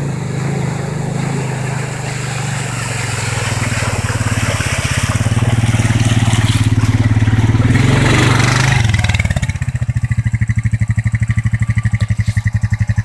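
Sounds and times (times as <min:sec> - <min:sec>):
quad bike engine chugging: 0:00.0 - 0:13.0
water splashing: 0:00.0 - 0:13.0.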